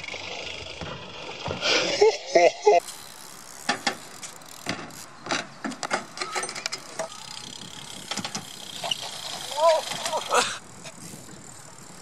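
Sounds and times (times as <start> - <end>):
bike clicks and knocks: 0.0 - 1.7, 2.8 - 12.0
bike rolling on asphalt: 0.0 - 12.0.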